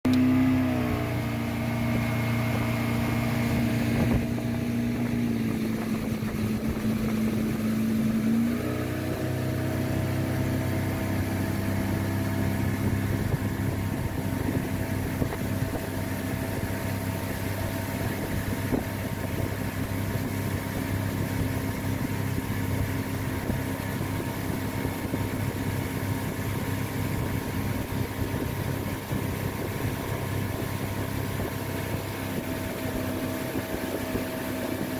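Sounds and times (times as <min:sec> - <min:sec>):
motorboat engine: 0:00.0 - 0:34.9
wind: 0:00.0 - 0:34.9
rushing water: 0:00.1 - 0:34.9.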